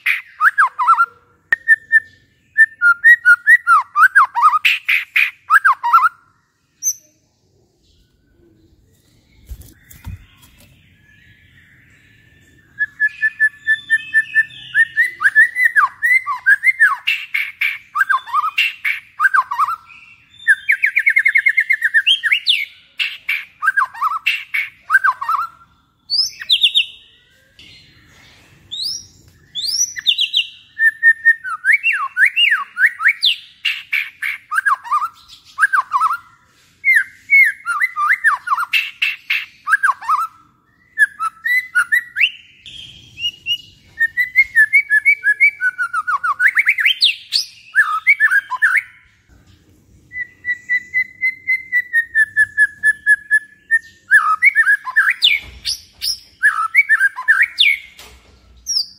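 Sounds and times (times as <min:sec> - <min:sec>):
songbird whistling and trilling: 0:00.0 - 0:07.3, 0:07.9 - 0:49.1, 0:50.1 - 0:58.0, 0:58.6 - 0:58.9.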